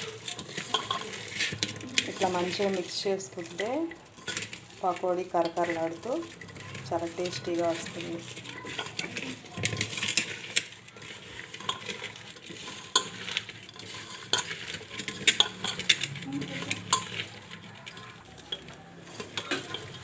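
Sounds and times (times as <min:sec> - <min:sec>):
hand squelching food in bowl: 0:00.0 - 0:20.0.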